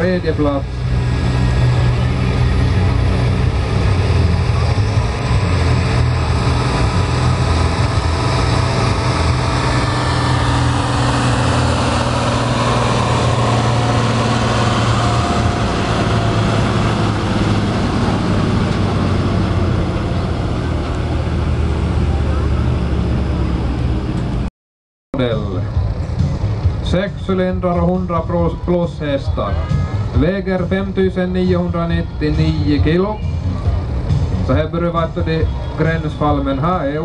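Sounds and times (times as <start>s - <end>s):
tractor diesel engine under load: 0.0s - 24.5s, 25.2s - 37.0s.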